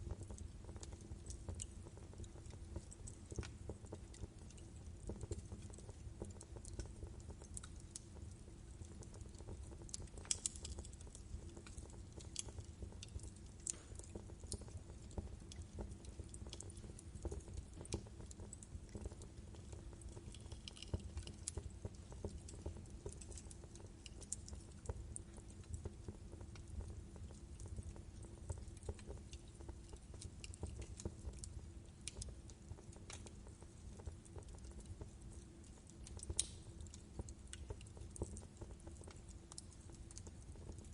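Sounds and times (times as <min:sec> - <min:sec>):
burning logs popping: 0:00.0 - 0:40.9
low rumble of flames: 0:00.0 - 0:40.9.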